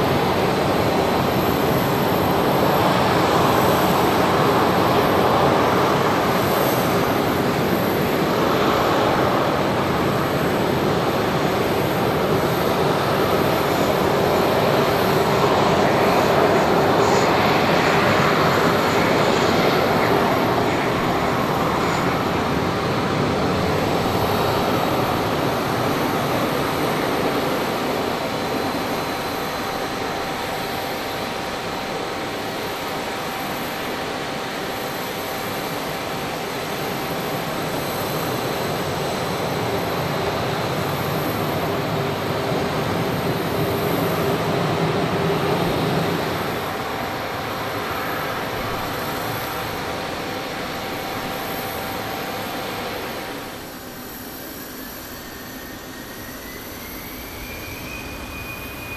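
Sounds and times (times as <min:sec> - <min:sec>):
jet engines taxiing: 0:00.0 - 0:58.9.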